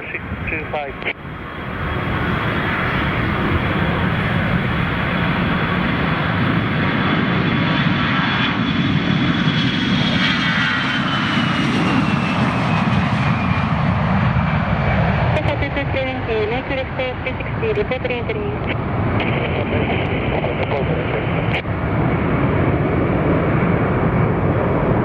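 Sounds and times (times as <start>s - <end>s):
airliner engines running: 0.0s - 25.0s.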